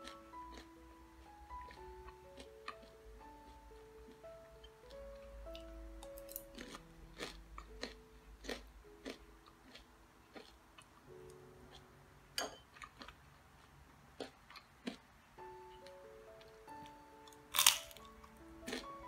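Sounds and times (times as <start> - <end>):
crunchy chewing: 0.0 - 0.7, 1.5 - 11.0, 12.7 - 15.1, 15.8 - 19.0
soft music of held notes: 0.0 - 19.0.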